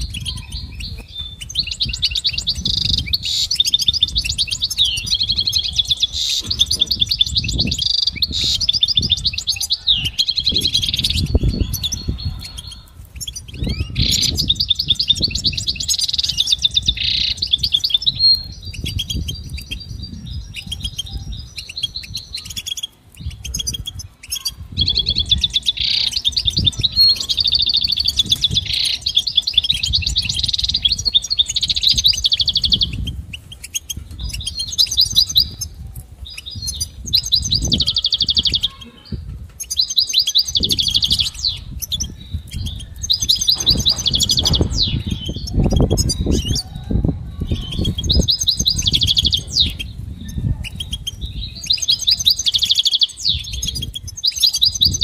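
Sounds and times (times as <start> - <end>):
goldfinch singing: 0.0 - 46.8, 47.4 - 55.0.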